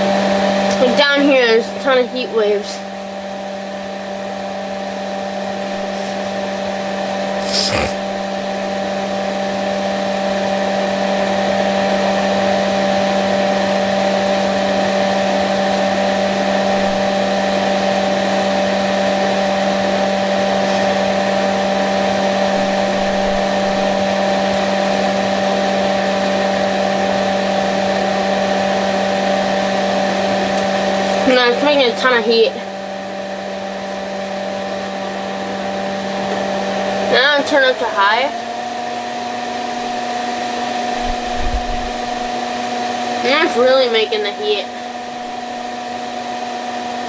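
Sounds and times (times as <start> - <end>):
space heater fan whirring: 0.0 - 47.0.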